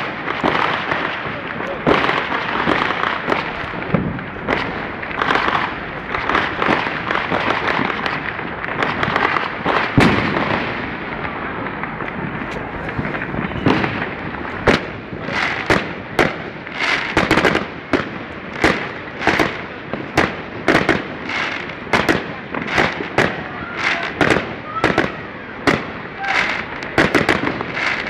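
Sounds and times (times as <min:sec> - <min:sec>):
fireworks crackling and rumbling: 0:00.0 - 0:28.0.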